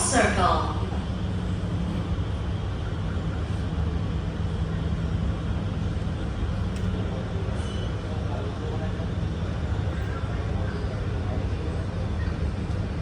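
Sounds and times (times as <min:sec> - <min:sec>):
train car hum and hiss: 0:00.0 - 0:13.0.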